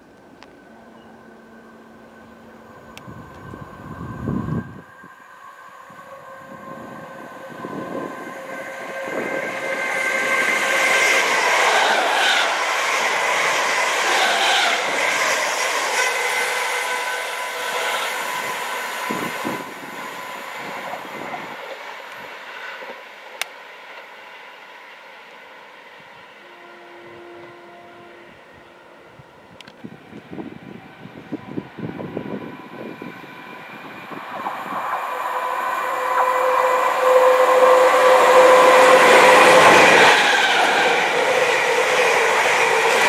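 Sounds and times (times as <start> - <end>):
train passing on rails: 0.0 - 43.0.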